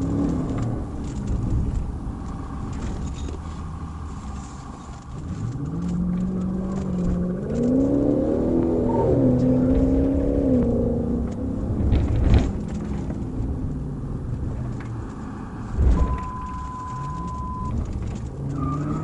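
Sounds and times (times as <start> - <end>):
car engine: 0.0 - 19.0
road rumble: 0.0 - 19.0.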